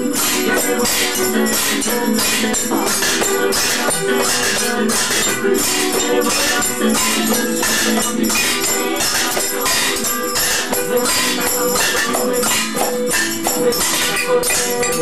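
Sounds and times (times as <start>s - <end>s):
held tuneful notes: 0.0s - 15.0s
shakers and rattles beat: 0.0s - 15.0s.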